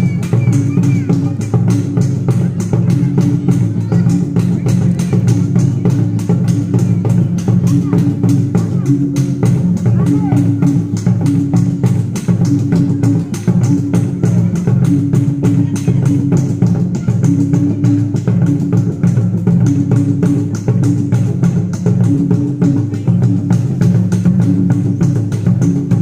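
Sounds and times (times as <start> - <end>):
fast drumbeats: 0.0 - 26.0.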